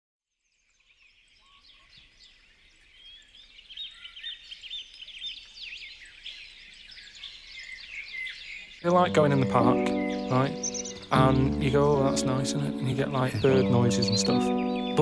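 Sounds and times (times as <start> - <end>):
songbirds chirping and twittering: 0.3 - 15.0.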